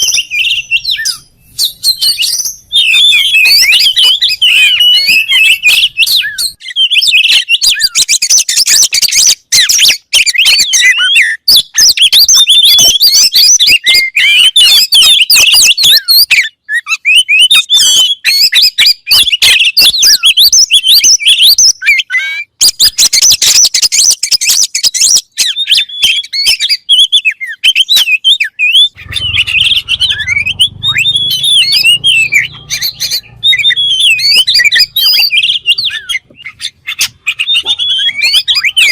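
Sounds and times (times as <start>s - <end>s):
songbird chirps trills and whistles: 0.0s - 38.9s.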